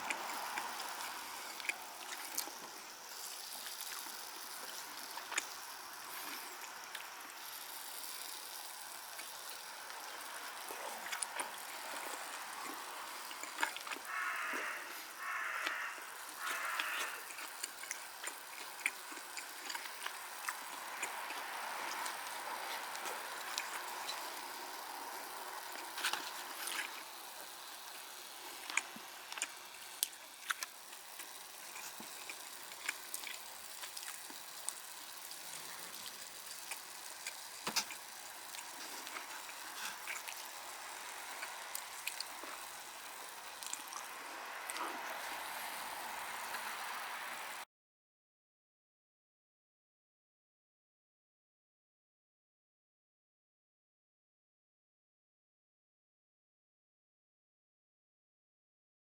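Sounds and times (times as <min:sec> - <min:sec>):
campfire crackling and popping: 0:00.0 - 0:47.6.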